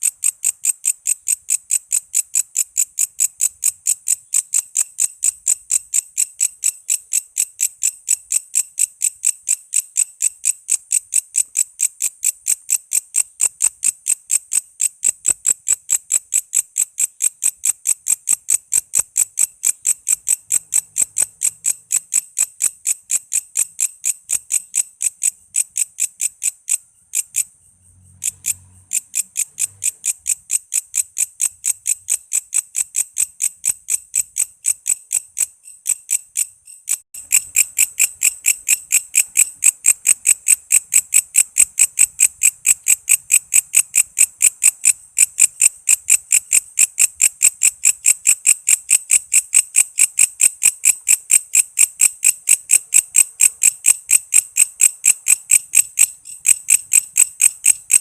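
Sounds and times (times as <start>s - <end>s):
katydid rasping song: 0.0s - 58.0s.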